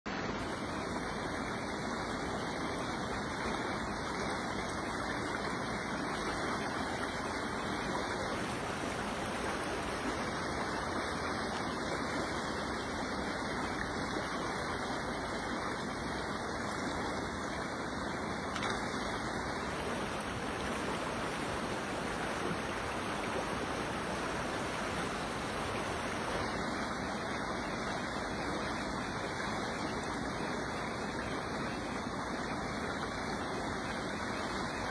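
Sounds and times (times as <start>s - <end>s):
creek water rushing: 0.1s - 34.9s.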